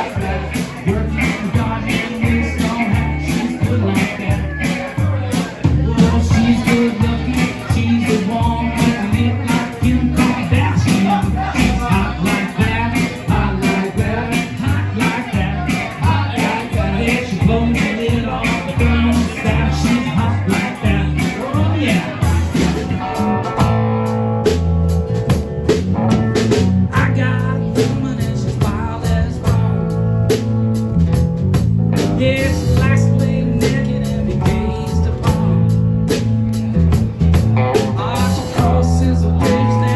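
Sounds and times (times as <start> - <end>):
person singing: 0.0 - 23.7, 26.9 - 30.4, 32.0 - 36.3, 37.6 - 39.9
blues-rock band music: 0.0 - 39.9.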